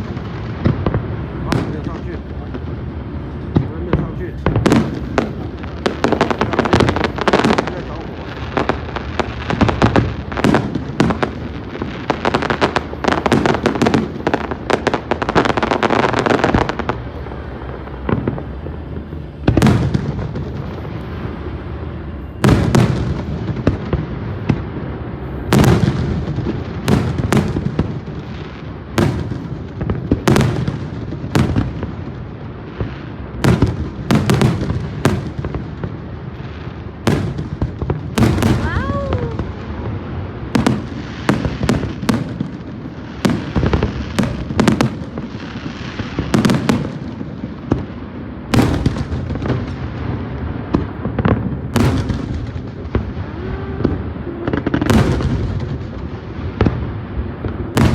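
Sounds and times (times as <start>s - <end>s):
fireworks bangs and crackling: 0.0s - 57.9s
fireworks booms: 0.0s - 57.9s.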